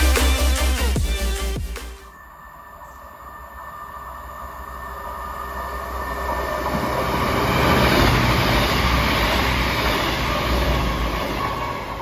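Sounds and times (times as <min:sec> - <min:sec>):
train diesel engines and wheels: 0:00.0 - 0:12.0.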